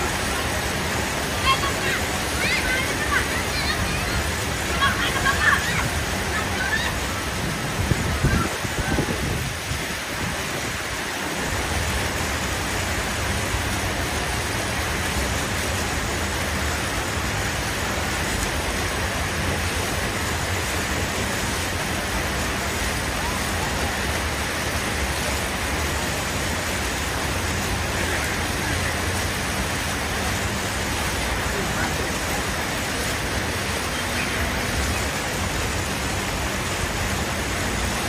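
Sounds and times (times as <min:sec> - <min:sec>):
road traffic hum and hiss: 0:00.0 - 0:38.0.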